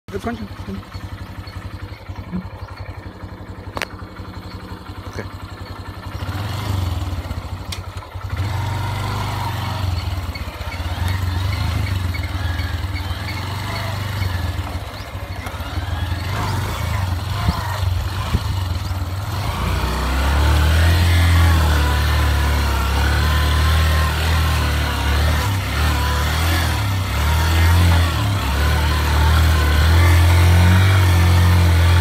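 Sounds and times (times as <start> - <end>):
vehicle engine rumbling under load: 0.1 - 32.0.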